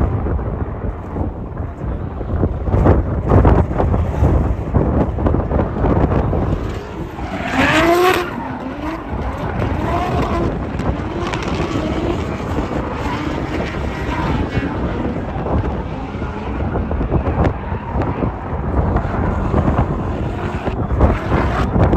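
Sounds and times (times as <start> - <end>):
wind buffeting microphone: 0.0 - 21.9
car engine revving hard: 2.8 - 21.9.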